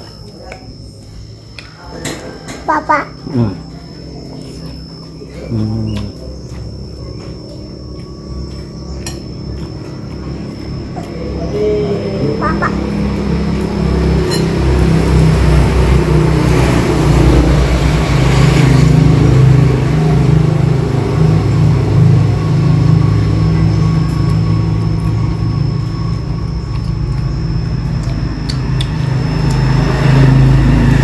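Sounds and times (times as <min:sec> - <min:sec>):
vehicle engine running: 0:03.2 - 0:31.0.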